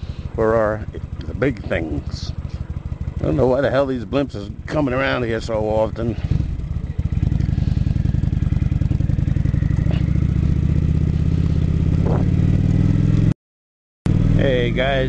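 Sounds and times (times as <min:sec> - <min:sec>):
motorcycle engine running: 0:00.0 - 0:13.3, 0:14.1 - 0:15.0.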